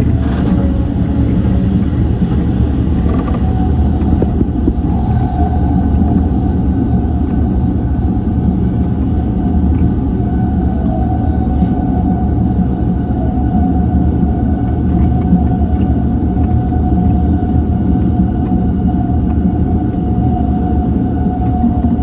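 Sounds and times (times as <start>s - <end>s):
electric train whine: 0.0s - 22.0s
train wheel and rail rumble: 0.0s - 22.0s.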